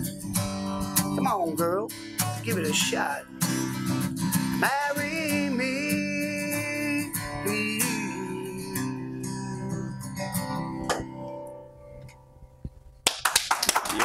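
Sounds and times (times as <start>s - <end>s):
acoustic guitar strumming: 0.0s - 12.6s.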